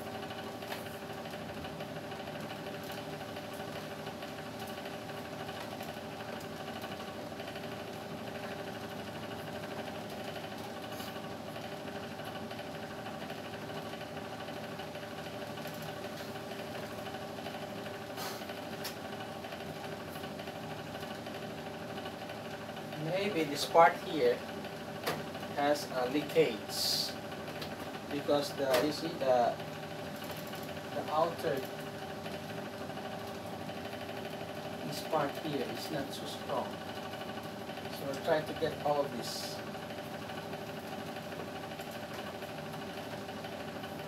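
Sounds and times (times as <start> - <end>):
air conditioner humming: 0.0 - 44.0.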